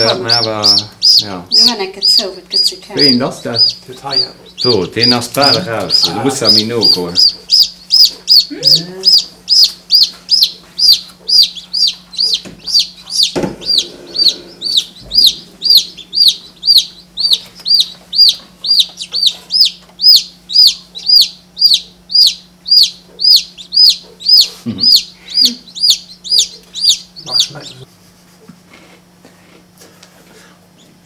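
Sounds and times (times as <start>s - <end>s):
chick peeping: 0.0s - 27.9s.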